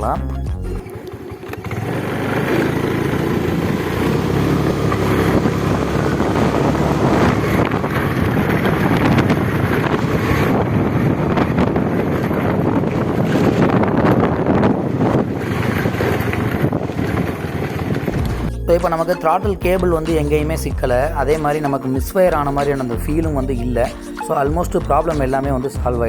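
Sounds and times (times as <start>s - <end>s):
scooter engine running: 0.0s - 26.0s
wind noise on microphone: 3.2s - 25.9s.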